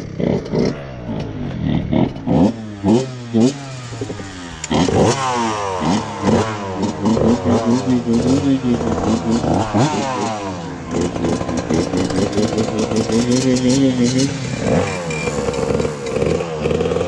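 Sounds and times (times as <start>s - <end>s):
dirt bike engines idling: 0.0s - 17.0s
engine throttle blips: 0.0s - 17.0s.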